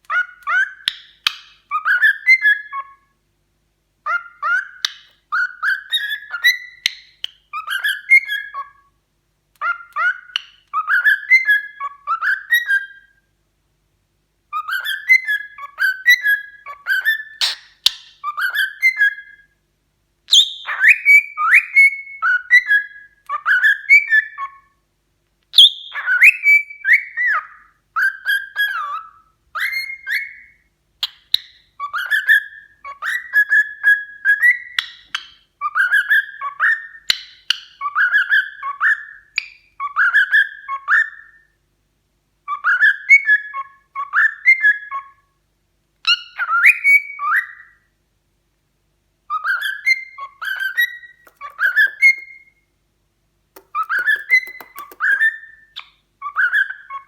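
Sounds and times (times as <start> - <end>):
cockatiel whistling: 0.1 - 3.0, 4.1 - 8.8, 9.6 - 13.1, 14.5 - 19.4, 20.3 - 24.6, 25.6 - 41.5, 42.5 - 45.2, 46.1 - 47.8, 49.3 - 52.6, 53.6 - 57.0.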